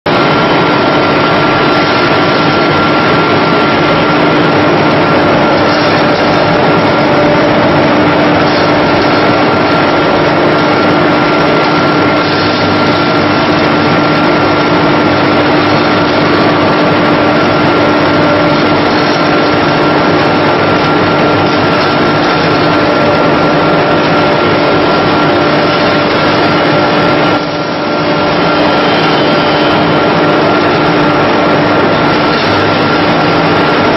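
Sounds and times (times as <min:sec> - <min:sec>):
pellet mill mechanical drone: 0:00.1 - 0:33.9.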